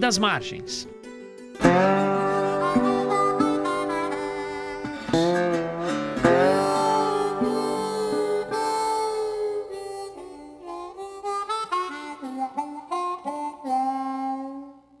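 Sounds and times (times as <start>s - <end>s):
harmonica melody: 0.0s - 15.0s.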